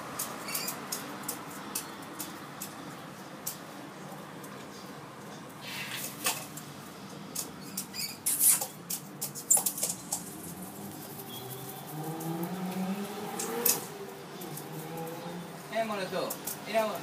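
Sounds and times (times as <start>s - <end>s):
bird clicks and rustles: 0.1s - 15.5s, 16.1s - 17.0s.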